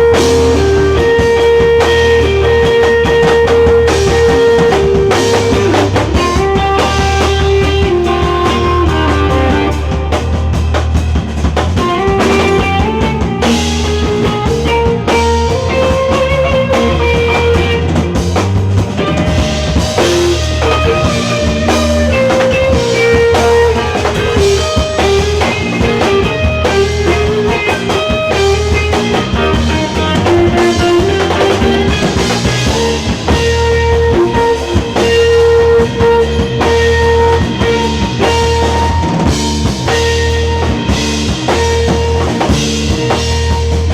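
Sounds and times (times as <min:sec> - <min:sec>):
live band playing: 0:00.0 - 0:43.9.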